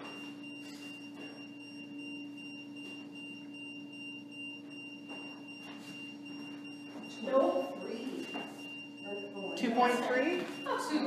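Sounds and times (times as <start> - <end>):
low electronic hum: 0.0 - 11.0.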